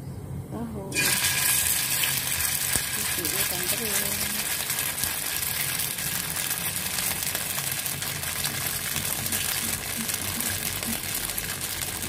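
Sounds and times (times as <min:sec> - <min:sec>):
fritter sizzling in hot oil: 0:01.0 - 0:12.0.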